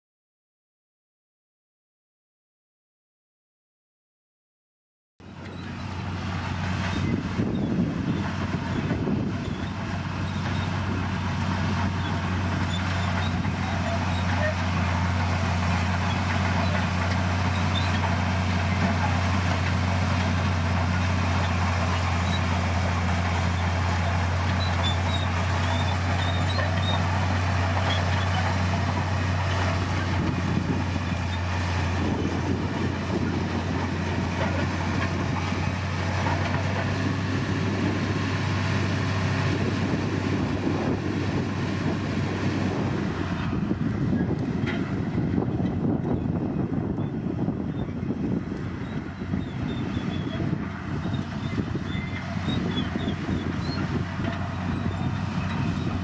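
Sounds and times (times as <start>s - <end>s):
bulldozer diesel engine running: 5.2s - 56.0s.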